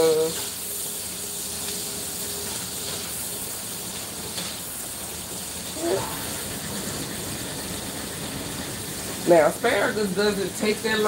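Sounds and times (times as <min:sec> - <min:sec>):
asparagus sizzling in a skillet: 0:00.0 - 0:11.0.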